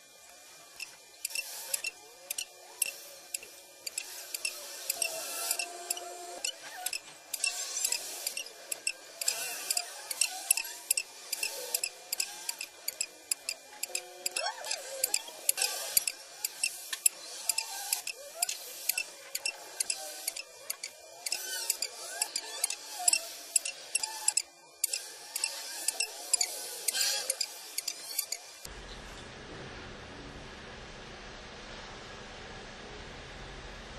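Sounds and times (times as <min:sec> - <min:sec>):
sharp clicks: 0:00.8 - 0:28.4.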